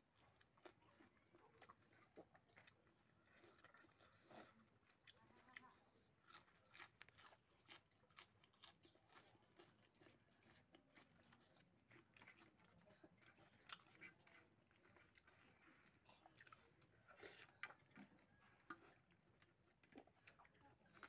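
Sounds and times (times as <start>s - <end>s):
faint chewing: 0.0s - 21.0s.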